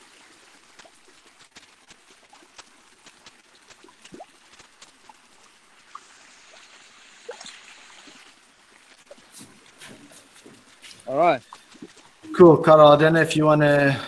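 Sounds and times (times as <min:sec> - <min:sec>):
small water splashes: 0:00.0 - 0:12.4
water trickling into fish tank: 0:00.0 - 0:12.5.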